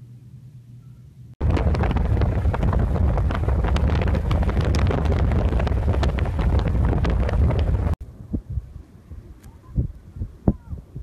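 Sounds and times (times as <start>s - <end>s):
strong wind buffeting microphone: 1.4s - 11.0s.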